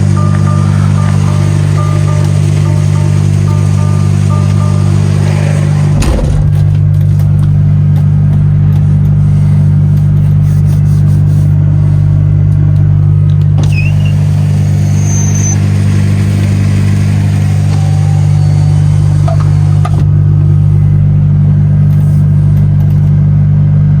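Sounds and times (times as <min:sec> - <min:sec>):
truck diesel engine droning: 0:00.0 - 0:23.6.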